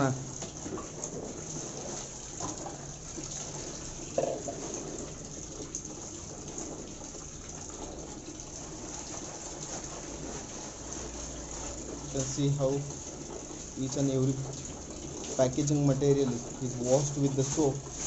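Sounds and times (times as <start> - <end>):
tap water pouring into bucket: 0.0 - 18.0.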